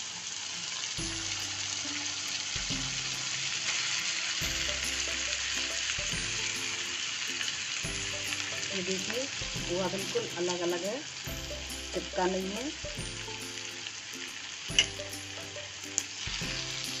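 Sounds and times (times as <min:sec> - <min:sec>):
frying hiss in a pan: 0:00.0 - 0:17.0.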